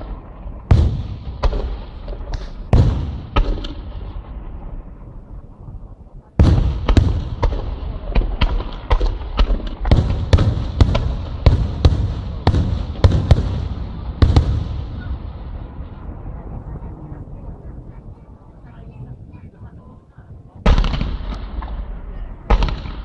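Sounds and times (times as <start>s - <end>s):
fireworks exploding: 0.0s - 17.4s, 20.6s - 23.0s.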